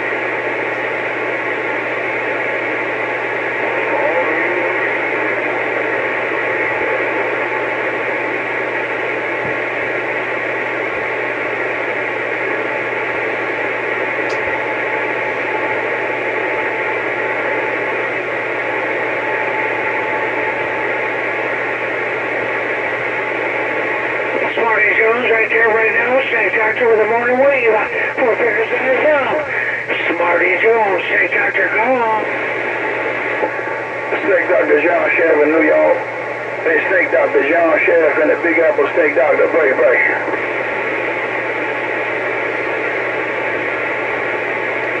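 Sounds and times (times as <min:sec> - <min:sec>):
low steady hum: 0:00.0 - 0:45.0
radio static hiss: 0:00.0 - 0:45.0.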